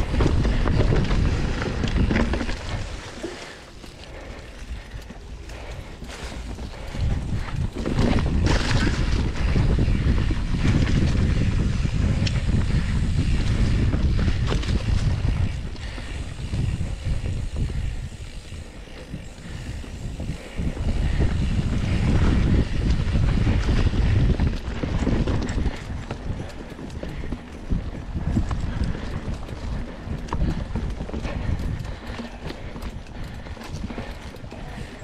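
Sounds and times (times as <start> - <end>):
bike tyre rumble: 0.0 - 35.0
wind buffeting microphone: 0.0 - 35.0.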